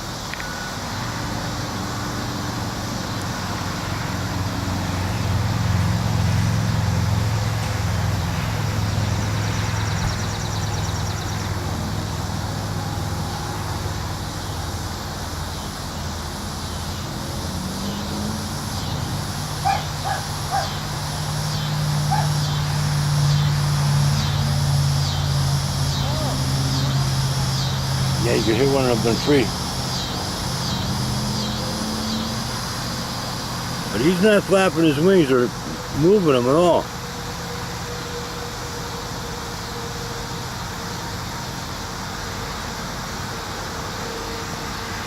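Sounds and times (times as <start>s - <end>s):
cicada calling in pulses: 0.0s - 45.0s
steady low hum: 0.0s - 45.0s.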